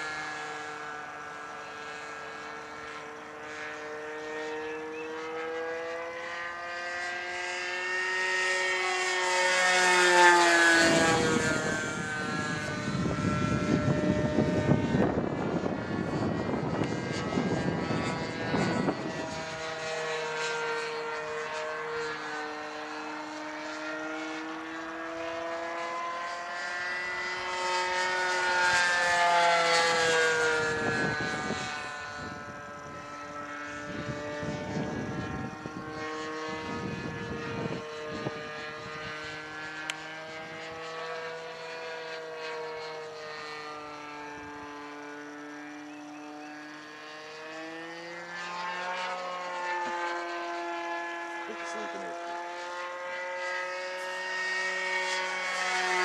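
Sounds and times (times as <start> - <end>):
model plane engine droning: 0.0 - 56.0.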